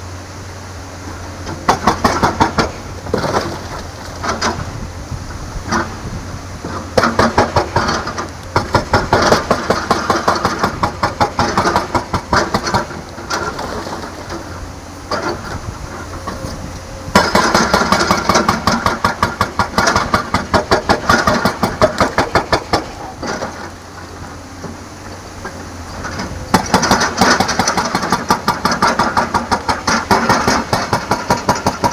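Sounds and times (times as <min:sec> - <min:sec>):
excavator diesel engine working: 0:00.0 - 0:31.9.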